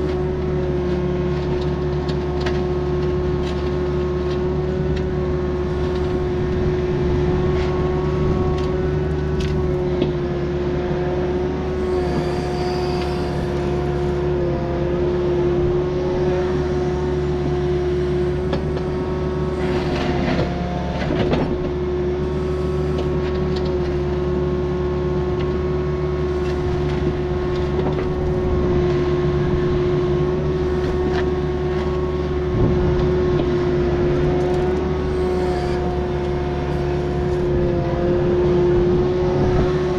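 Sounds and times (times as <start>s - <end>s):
diesel machine engine drone: 0.0s - 39.9s.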